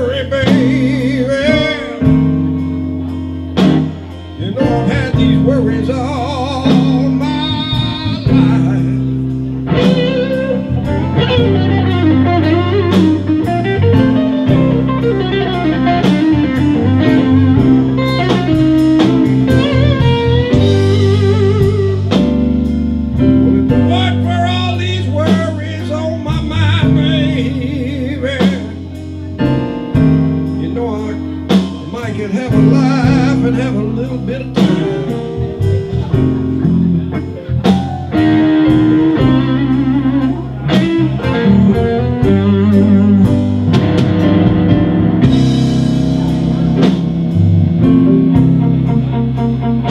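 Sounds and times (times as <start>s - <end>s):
bass line: 0.0s - 49.9s
drum kit beat: 0.0s - 49.9s
electric guitar lead: 0.0s - 49.9s.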